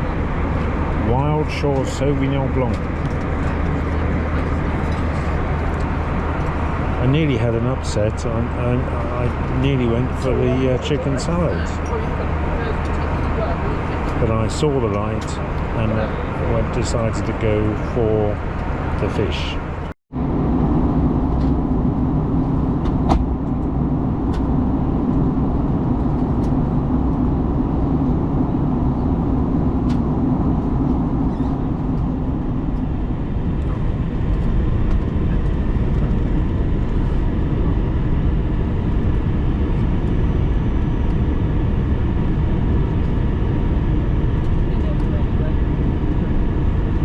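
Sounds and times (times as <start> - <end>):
airliner engine and airflow noise: 0.0 - 47.0
low hum: 0.0 - 47.0.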